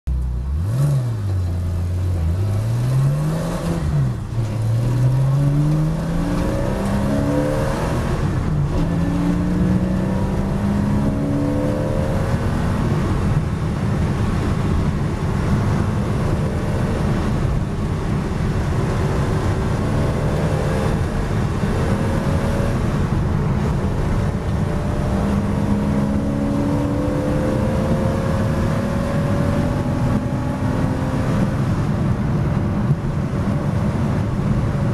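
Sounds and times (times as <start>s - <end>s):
road and wind noise: 0.0s - 34.9s
race car engine accelerating: 0.4s - 32.0s.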